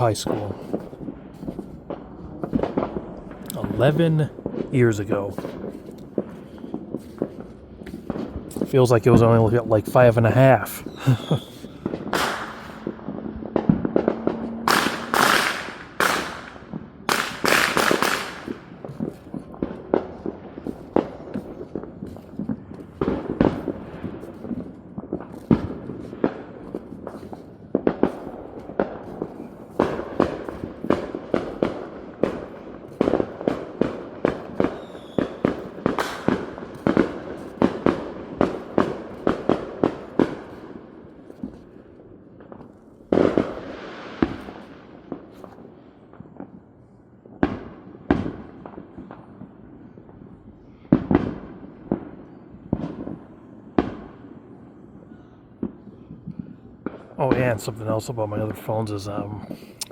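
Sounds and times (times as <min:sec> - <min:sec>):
fireworks bangs and pops: 0:00.0 - 0:54.8, 0:55.6 - 0:59.9
crackling firework bursts: 0:00.0 - 0:59.9.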